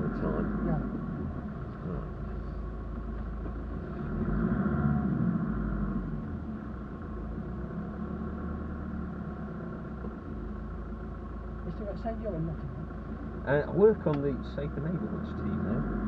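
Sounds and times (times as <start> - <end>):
vehicle engine low rumble: 0.0 - 16.0.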